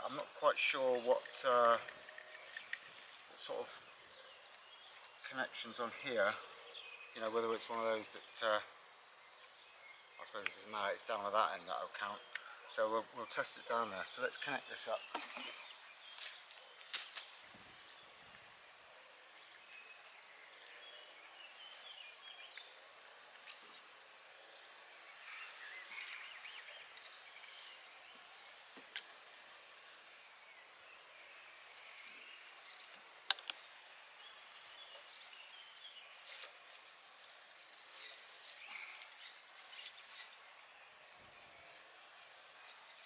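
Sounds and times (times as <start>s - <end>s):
faint bird chirps: 0.0s - 43.0s.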